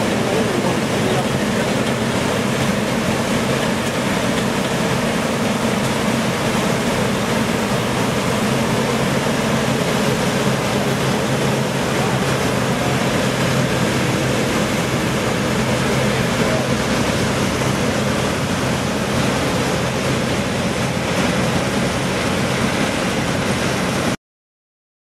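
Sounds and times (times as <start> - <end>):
combine harvesters running: 0.0 - 24.2.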